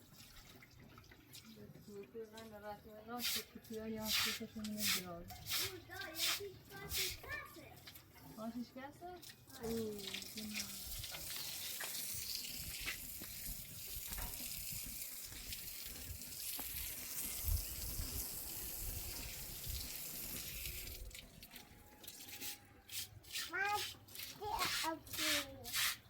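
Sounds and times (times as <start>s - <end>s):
water running with a hiss: 3.1s - 8.6s, 9.2s - 26.0s.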